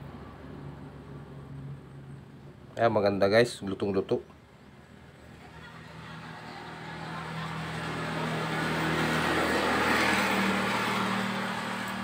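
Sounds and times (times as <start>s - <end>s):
vehicle engine passing by: 0.0s - 2.8s, 4.7s - 12.0s.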